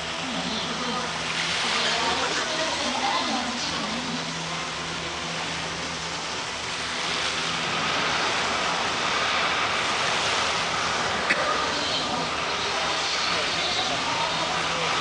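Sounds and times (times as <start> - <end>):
low steady hum: 0.0 - 15.0
water spray jets hissing: 0.0 - 15.0.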